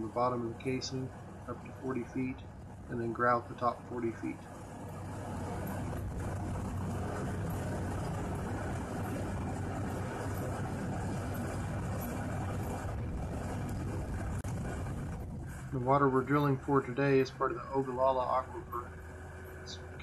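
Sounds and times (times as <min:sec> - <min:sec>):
drill rig engine running: 0:00.0 - 0:20.0.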